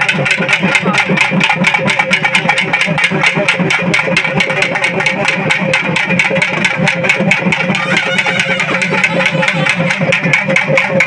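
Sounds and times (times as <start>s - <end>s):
fast drumbeats: 0.0s - 11.0s
steady droning tone: 0.0s - 11.0s.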